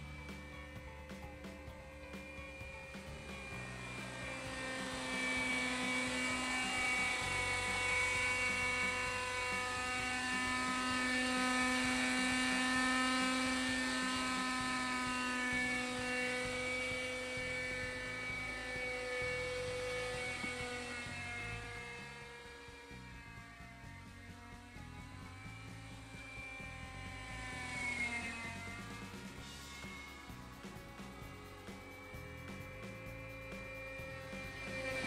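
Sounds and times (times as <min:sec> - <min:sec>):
model helicopter engine and rotor: 0:00.0 - 0:35.0.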